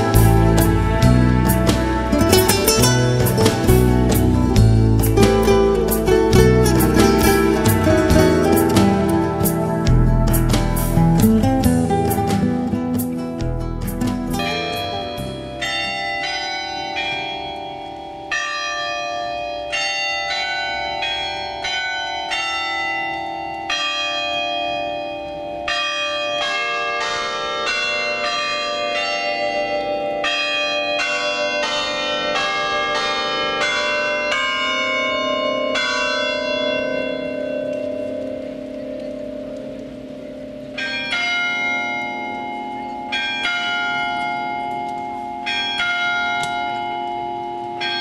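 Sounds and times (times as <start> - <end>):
bells ringing: 0.0 - 48.0.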